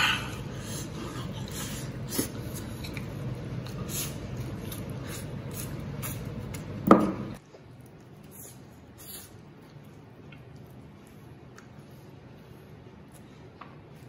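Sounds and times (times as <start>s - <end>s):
person chewing: 0.0s - 6.8s, 7.4s - 14.0s.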